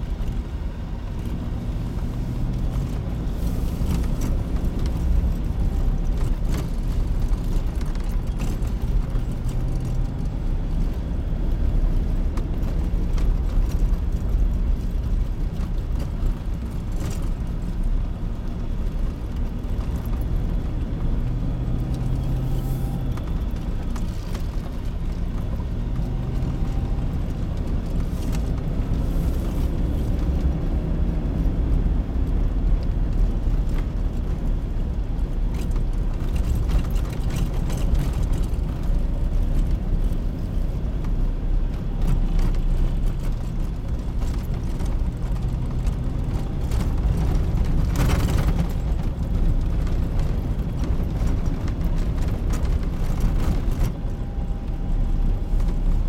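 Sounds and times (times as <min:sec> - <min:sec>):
car interior road noise: 0:00.0 - 0:56.0.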